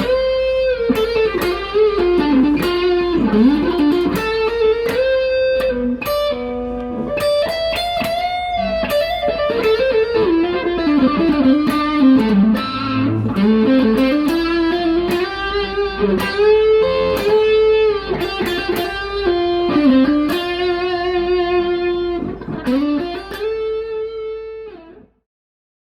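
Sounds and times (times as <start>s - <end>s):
electric guitar lead melody: 0.0s - 25.2s.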